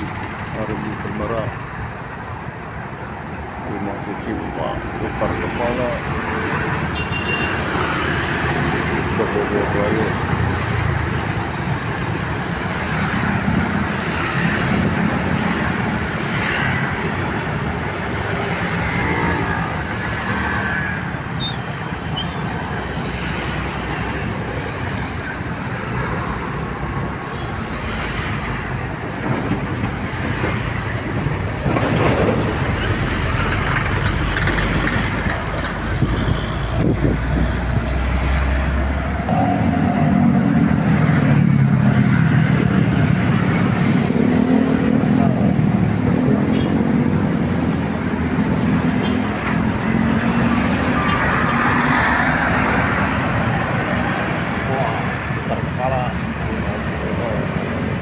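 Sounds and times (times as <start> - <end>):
buses and trucks passing: 0.0 - 58.0
highway traffic: 0.0 - 58.0.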